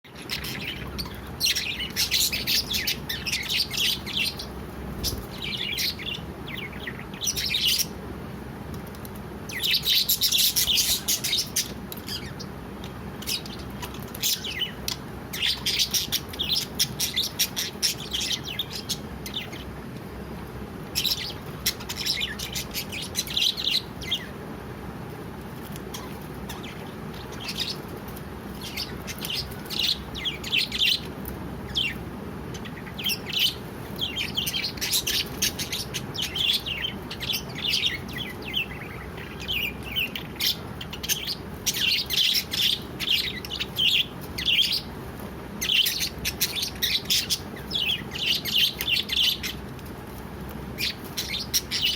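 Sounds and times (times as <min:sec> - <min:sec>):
parrots chirping: 0:00.1 - 0:08.0, 0:09.4 - 0:19.9, 0:20.9 - 0:24.5, 0:25.6 - 0:49.7, 0:50.6 - 0:51.9
low background hiss: 0:00.1 - 0:51.9.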